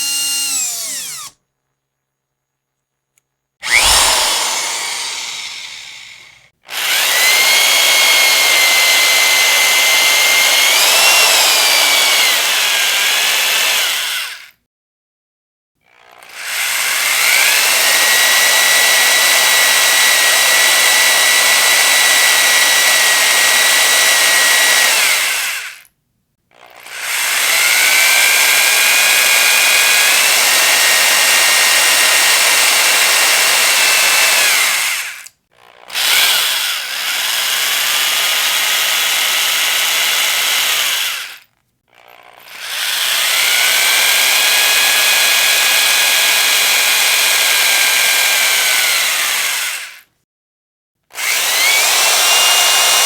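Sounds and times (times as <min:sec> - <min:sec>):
electric power drill whining: 0:00.0 - 0:01.4, 0:03.6 - 0:14.5, 0:16.2 - 0:25.9, 0:26.6 - 0:35.3, 0:35.9 - 0:50.0, 0:51.1 - 0:53.0.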